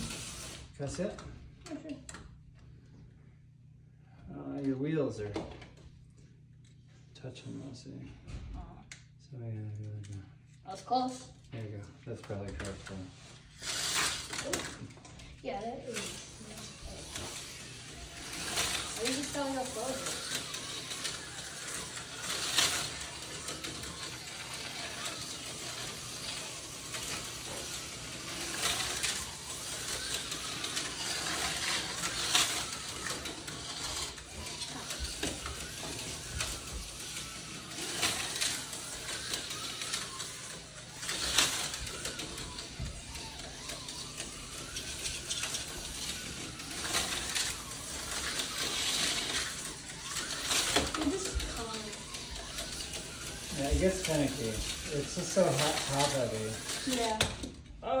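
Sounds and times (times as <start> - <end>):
slot car motors whirring: 0.0 - 3.4, 9.8 - 58.0.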